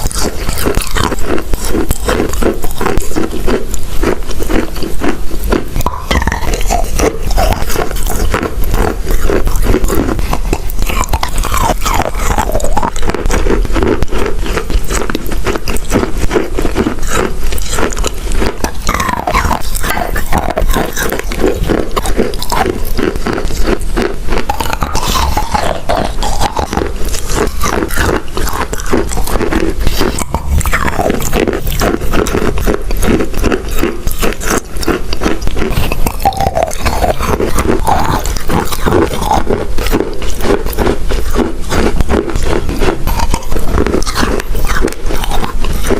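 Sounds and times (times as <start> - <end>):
chalk being chewed: 0.0 - 45.9.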